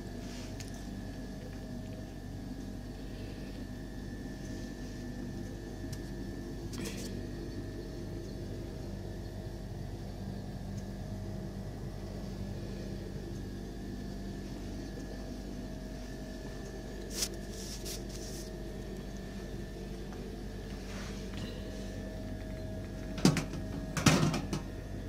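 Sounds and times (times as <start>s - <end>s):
appliances humming: 0.0s - 25.0s.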